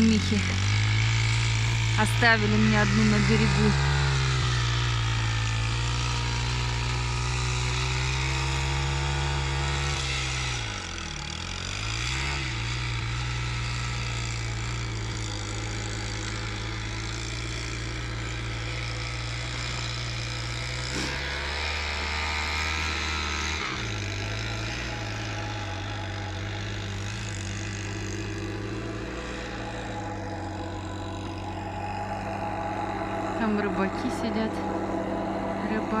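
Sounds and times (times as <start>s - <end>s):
motorbike engine running: 0.0s - 36.0s.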